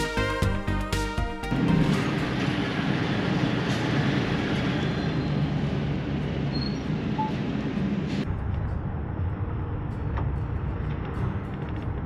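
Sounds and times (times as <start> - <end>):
diesel truck engine rumble: 1.5 - 12.0
tyre and road noise: 1.5 - 12.0.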